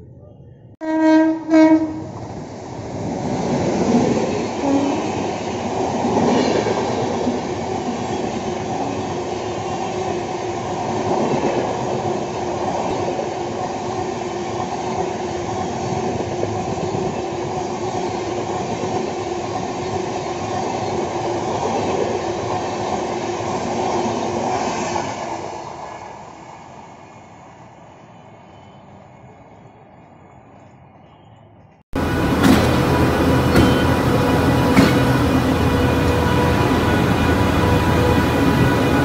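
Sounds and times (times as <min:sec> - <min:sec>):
train wheels rushing on rails: 0:01.8 - 0:27.8, 0:29.2 - 0:39.0.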